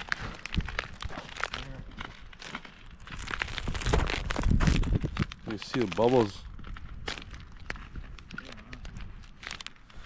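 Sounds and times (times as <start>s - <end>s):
footsteps crunching on snow: 0.0s - 9.6s.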